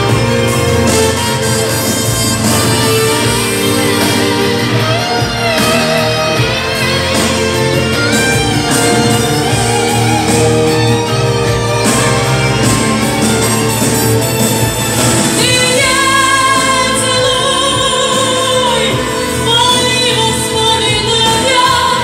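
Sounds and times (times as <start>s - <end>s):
bass line: 0.0s - 22.0s
instrumental band music: 0.0s - 22.0s
pitch-bending lead melody: 0.0s - 22.0s.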